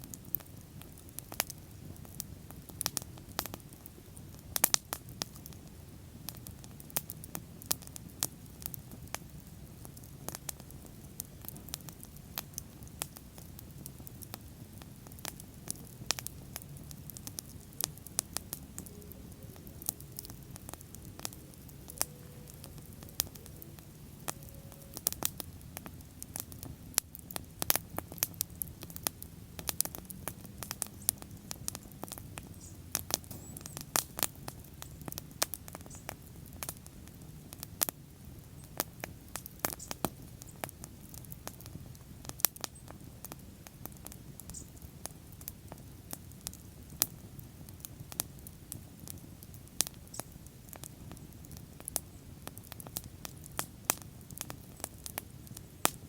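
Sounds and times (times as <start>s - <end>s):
bonfire crackling and popping: 0.0s - 56.0s
low rumble of flame: 0.0s - 56.0s.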